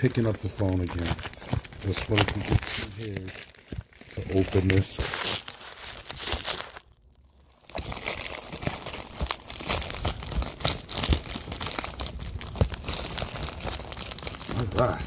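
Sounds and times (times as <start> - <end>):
plastic bag rustling and crackling: 0.0 - 15.0.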